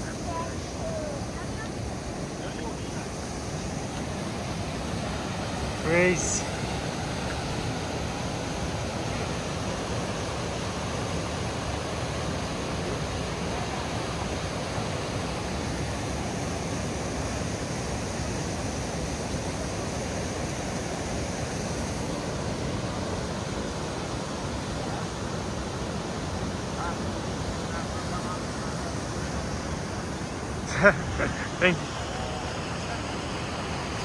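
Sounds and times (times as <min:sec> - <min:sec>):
stream rushing over boulders: 0:00.0 - 0:34.0.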